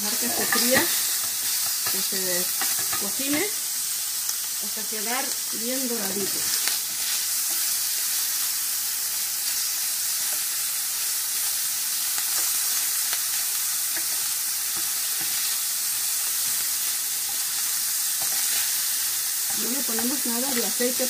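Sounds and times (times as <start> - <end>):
bacon sizzling in pan: 0.0 - 21.0.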